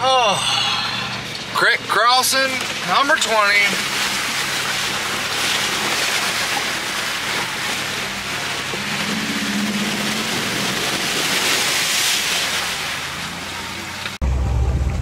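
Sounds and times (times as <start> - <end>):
water rushing and splashing: 0.0 - 14.2
car engine running: 0.0 - 15.0.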